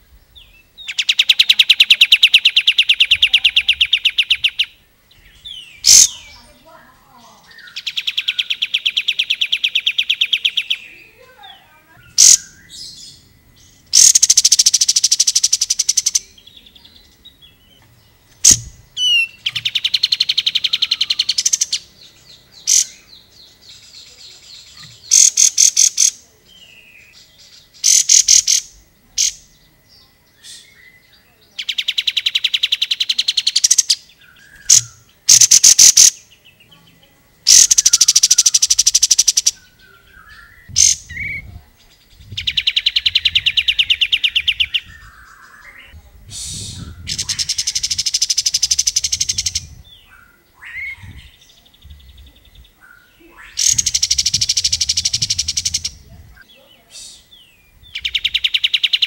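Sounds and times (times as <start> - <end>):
bird singing stuttering trills: 0.0 - 59.0.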